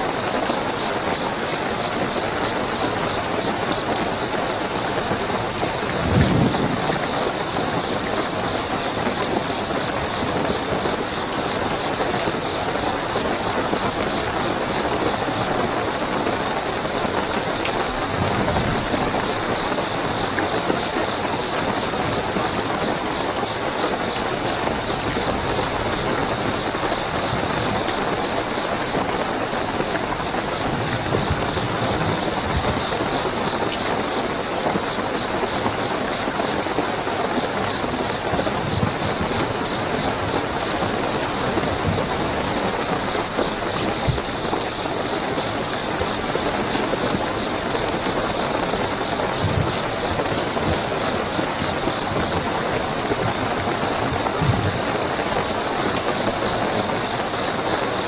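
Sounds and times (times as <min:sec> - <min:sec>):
cricket trill: 0:00.0 - 0:58.0
heavy rainfall: 0:00.0 - 0:58.0.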